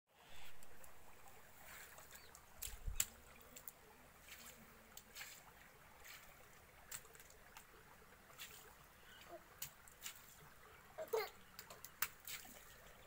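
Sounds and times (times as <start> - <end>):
water trickling: 0.2 - 13.0
splashes of feet and hands in water: 1.5 - 10.6, 11.6 - 13.0.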